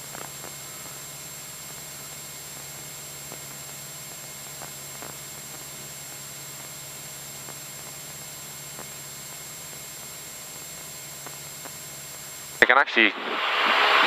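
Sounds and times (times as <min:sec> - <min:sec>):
small plane engine droning: 0:00.0 - 0:14.0
steady hiss: 0:00.0 - 0:14.0.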